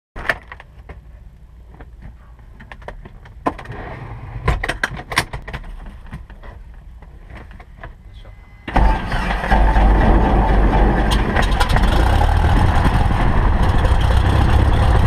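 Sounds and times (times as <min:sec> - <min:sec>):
low steady rumble: 0:00.5 - 0:15.0.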